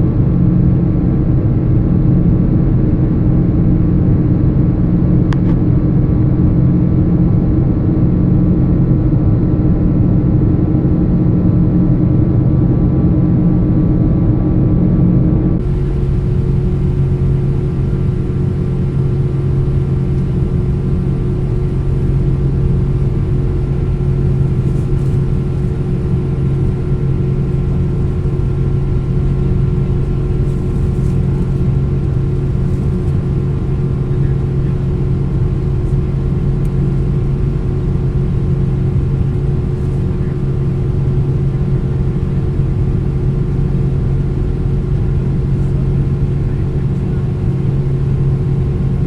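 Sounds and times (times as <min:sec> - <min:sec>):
airplane cabin engine drone: 0:00.0 - 0:49.0
steady hums: 0:00.0 - 0:49.0.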